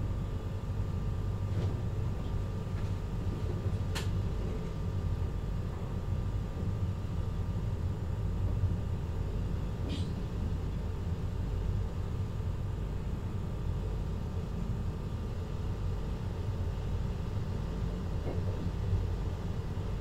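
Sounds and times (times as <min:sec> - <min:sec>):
train cab low rumble: 0:00.0 - 0:20.0.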